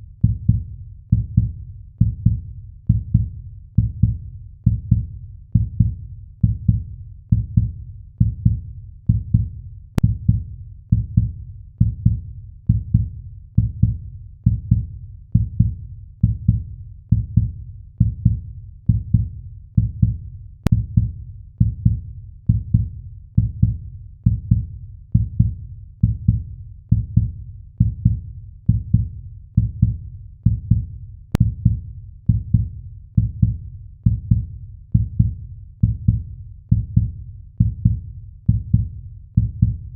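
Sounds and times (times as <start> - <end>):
heartbeat thumps: 0.2 - 39.9.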